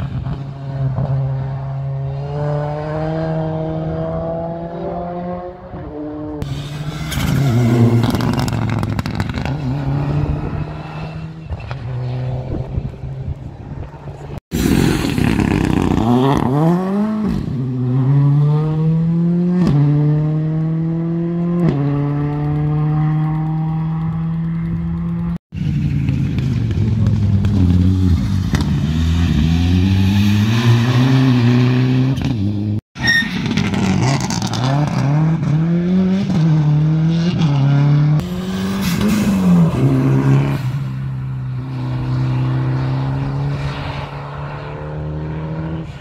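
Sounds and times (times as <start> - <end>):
rally car engine revving: 0.0 - 32.8, 33.4 - 46.0.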